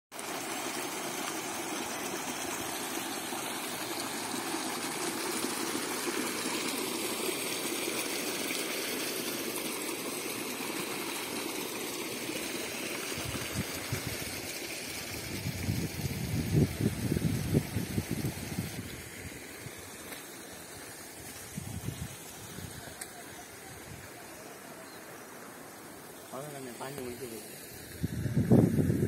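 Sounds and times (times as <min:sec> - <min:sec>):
water gushing from a pipe: 0:00.1 - 0:29.0
water rushing along a channel: 0:00.1 - 0:29.0.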